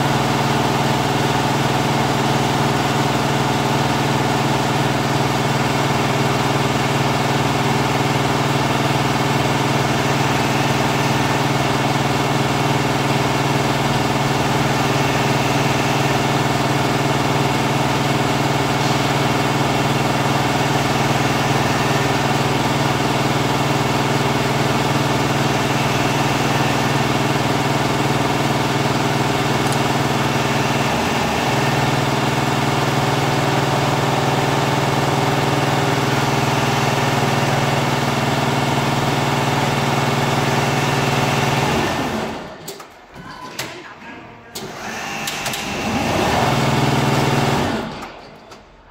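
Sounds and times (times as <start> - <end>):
machine hum: 0.0 - 48.6.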